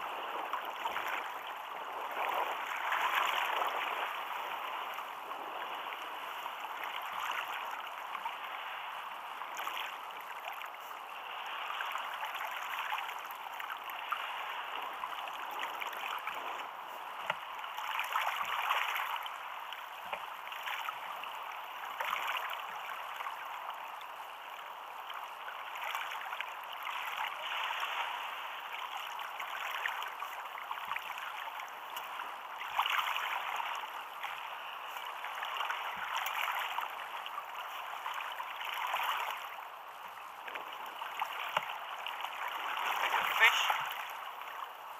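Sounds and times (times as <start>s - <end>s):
water lapping against kayak hull: 0.0s - 44.9s.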